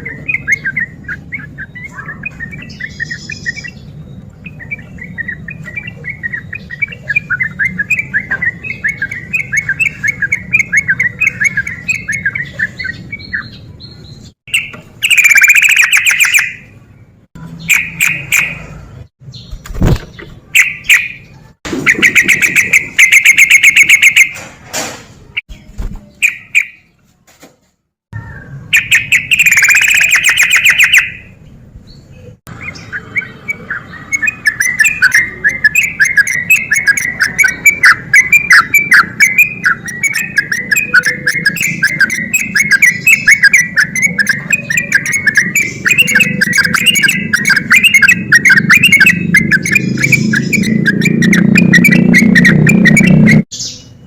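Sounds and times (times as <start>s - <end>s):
bird chattering notes: 0.0s - 13.6s, 14.2s - 16.7s, 17.4s - 18.7s, 19.6s - 24.4s, 28.7s - 31.4s, 32.5s - 53.5s
bird singing bubbly phrases: 0.0s - 16.8s, 19.4s - 24.3s, 25.5s - 26.9s, 28.2s - 54.0s.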